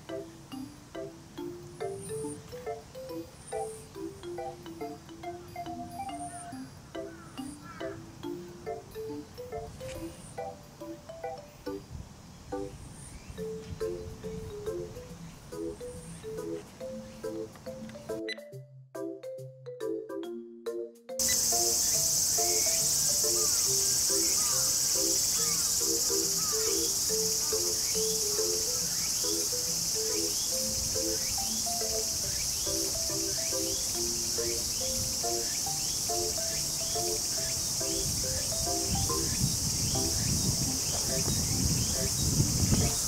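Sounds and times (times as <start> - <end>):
crickets and insects chirping: 0.0 - 18.3, 21.2 - 43.0
faint background music: 0.0 - 43.0.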